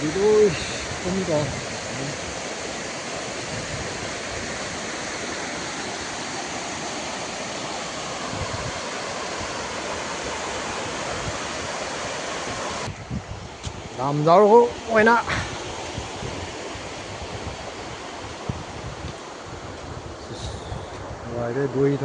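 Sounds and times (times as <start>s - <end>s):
floodwater rushing over a dam: 0.0s - 20.2s.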